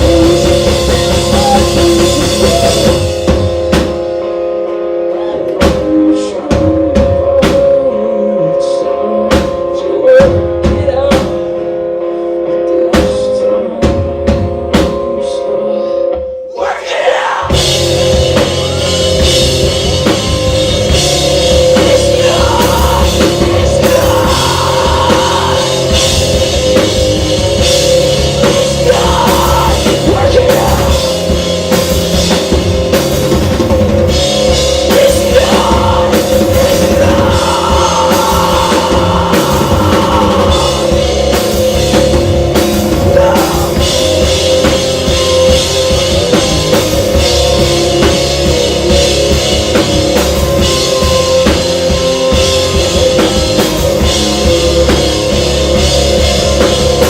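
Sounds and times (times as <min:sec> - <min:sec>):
drum kit: 0:00.0 - 0:08.2, 0:08.9 - 0:11.9, 0:12.7 - 0:15.3, 0:16.1 - 0:57.0
live rock band: 0:00.0 - 0:57.0.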